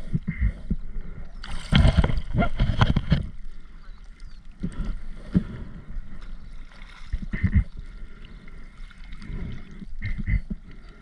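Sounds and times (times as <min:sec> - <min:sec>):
water gurgling and sloshing: 0:00.0 - 0:11.0.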